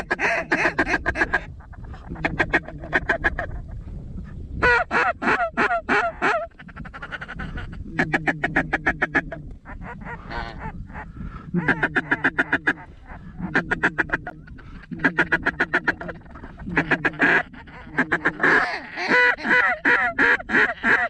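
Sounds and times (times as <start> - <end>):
duck call quacking: 0.0 - 1.5, 4.6 - 11.0, 11.6 - 21.0.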